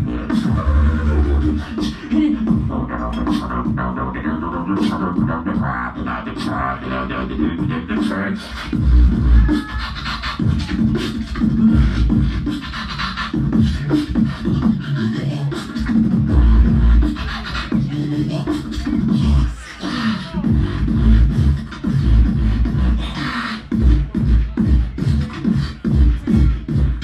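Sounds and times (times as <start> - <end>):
amplified beatboxing: 0.0 - 27.0.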